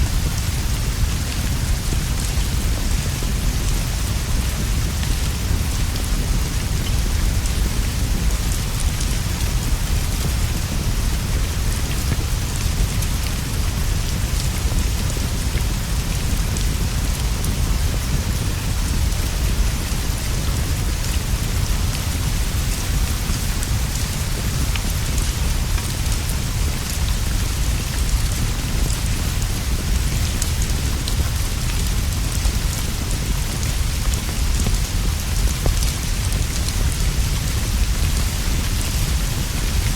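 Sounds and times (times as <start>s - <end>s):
rain on leaves and straw roof: 0.0s - 39.9s.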